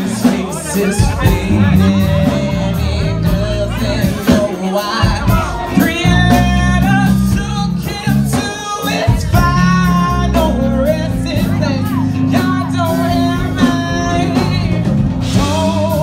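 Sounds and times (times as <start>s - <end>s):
music with bass line: 0.0s - 16.0s
person singing into microphone: 0.0s - 16.0s.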